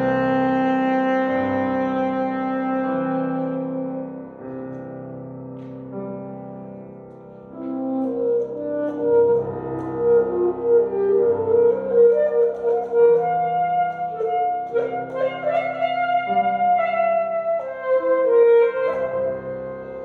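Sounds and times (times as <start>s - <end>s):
alto saxophone melody: 0.0s - 4.9s, 7.5s - 20.0s
piano accompaniment: 0.0s - 20.0s.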